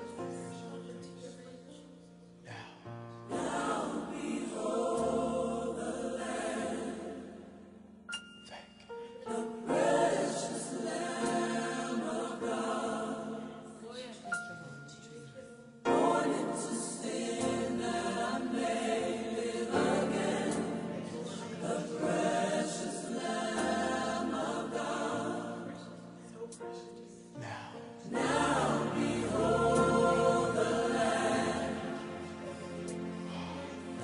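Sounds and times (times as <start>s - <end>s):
gospel choir singing: 0.0s - 1.6s, 2.4s - 8.0s, 8.9s - 14.8s, 15.7s - 34.0s.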